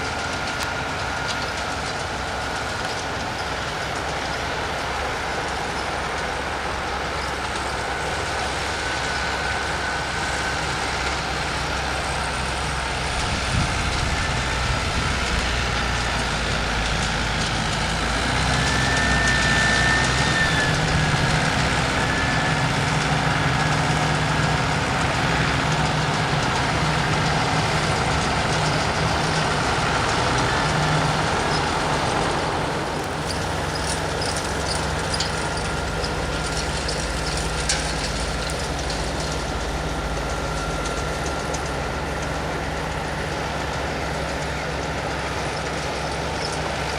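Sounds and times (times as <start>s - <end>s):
road or wind noise hiss: 0.0s - 46.9s
vehicle engine running: 0.0s - 46.9s.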